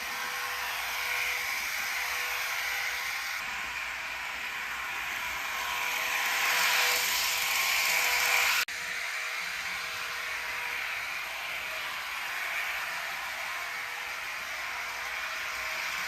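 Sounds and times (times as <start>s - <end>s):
model train hissing rush: 0.0s - 16.0s.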